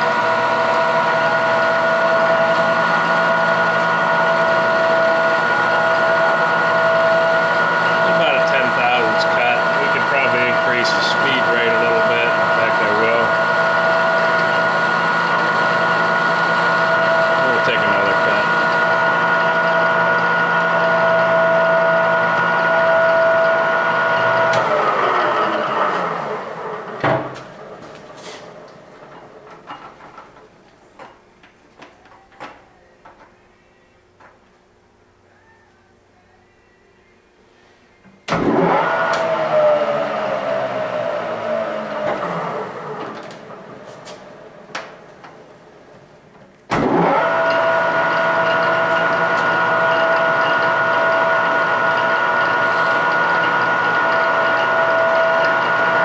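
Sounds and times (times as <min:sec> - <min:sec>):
lathe gear whine: 0:00.0 - 0:30.2, 0:38.2 - 0:44.6, 0:46.7 - 0:56.0.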